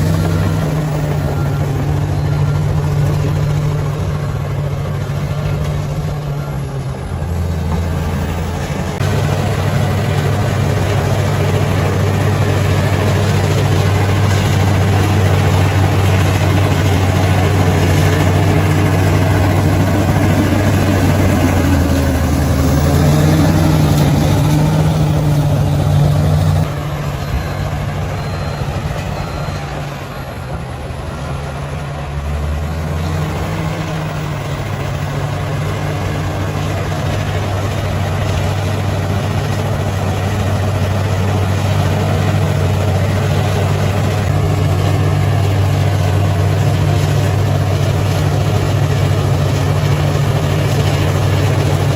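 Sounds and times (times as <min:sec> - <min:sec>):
bulldozer diesel engine droning: 0:00.0 - 0:51.9.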